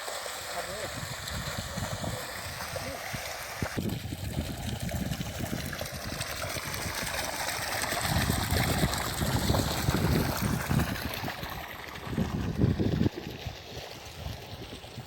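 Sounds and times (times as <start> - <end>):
water flowing and splashing: 0.0 - 15.0.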